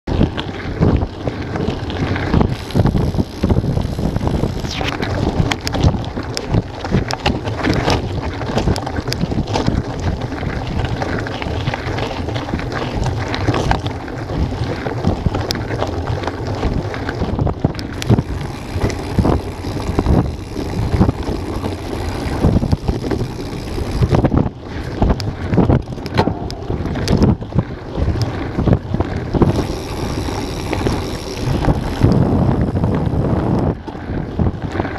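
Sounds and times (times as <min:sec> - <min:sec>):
wind buffeting microphone: 0:00.0 - 0:34.9
bike knocks and rattles: 0:00.1 - 0:34.9.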